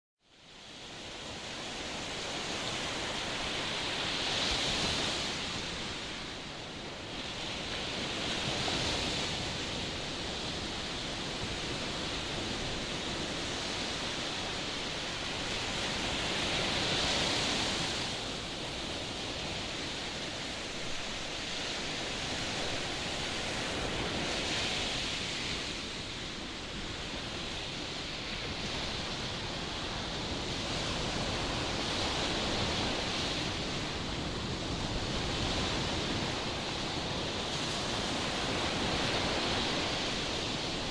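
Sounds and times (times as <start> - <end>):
sea surf: 0.4 - 40.9
strong wind: 0.4 - 40.9.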